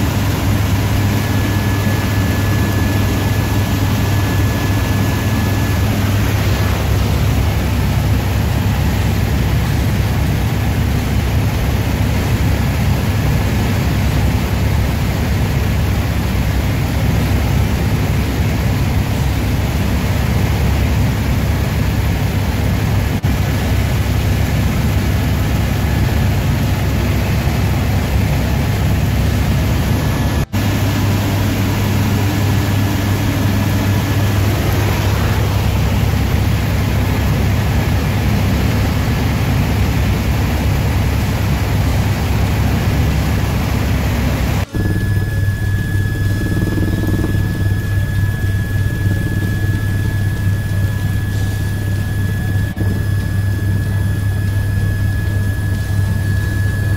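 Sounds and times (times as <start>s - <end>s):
helicopter engine and rotor drone: 0.0s - 56.9s.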